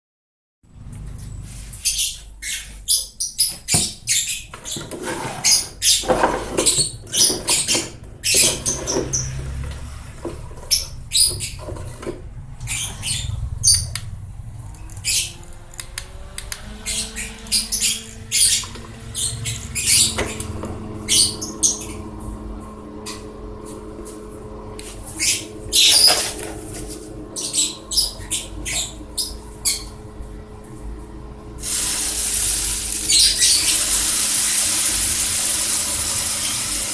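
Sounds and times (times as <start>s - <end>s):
desk fan motor hum: 6.0s - 12.7s, 13.3s - 36.9s.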